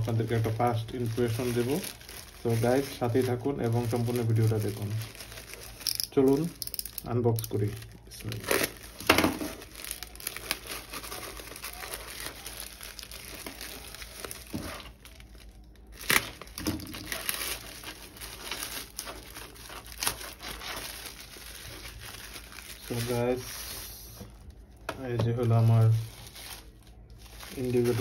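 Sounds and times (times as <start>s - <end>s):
plastic bag crinkling and tearing: 0.0s - 24.5s, 25.3s - 28.0s.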